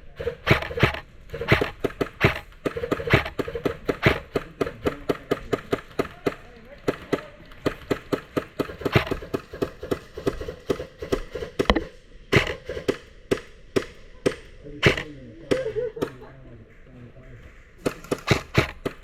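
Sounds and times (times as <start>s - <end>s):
airsoft gun shots: 0.2s - 16.2s, 17.8s - 19.0s.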